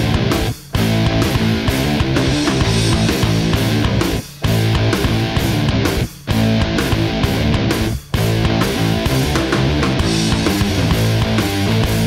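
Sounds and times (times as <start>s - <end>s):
heavy rock music with electric guitar: 0.0s - 12.0s.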